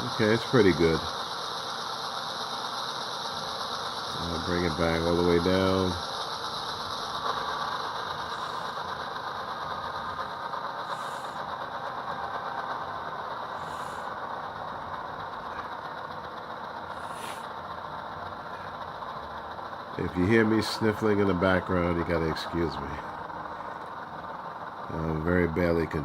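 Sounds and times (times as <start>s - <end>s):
model locomotive diesel engine sound: 0.0s - 26.0s.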